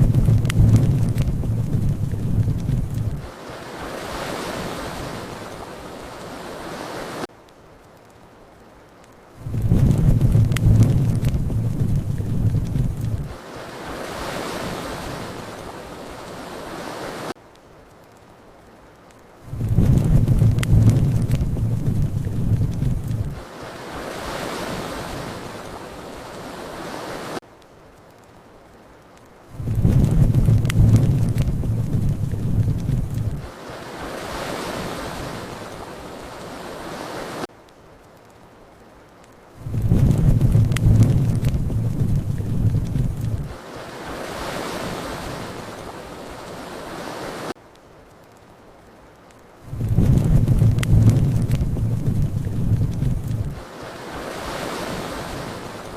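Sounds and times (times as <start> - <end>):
low fire rumble: 0.0 - 6.2, 7.3 - 16.0, 17.4 - 26.0, 27.5 - 36.1, 37.5 - 45.9, 47.6 - 55.9
fire crackling: 0.0 - 55.9
steady hiss: 0.0 - 55.9.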